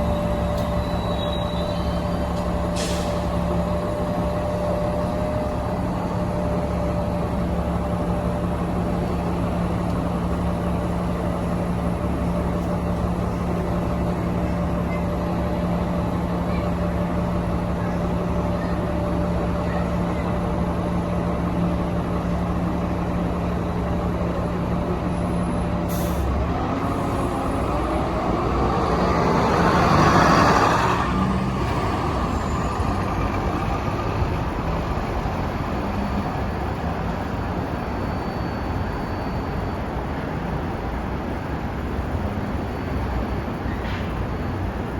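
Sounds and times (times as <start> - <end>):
bus passing: 0.0 - 44.9.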